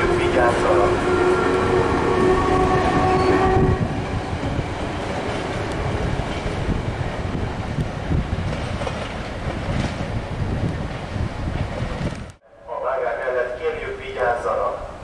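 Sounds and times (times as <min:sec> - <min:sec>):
train wheels rumbling and clacking: 0:00.0 - 0:12.4.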